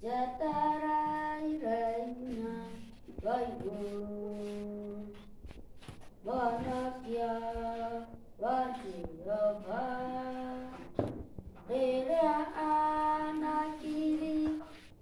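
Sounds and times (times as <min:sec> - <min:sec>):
boy singing unaccompanied: 0:00.0 - 0:05.2, 0:06.2 - 0:11.0, 0:11.7 - 0:14.8.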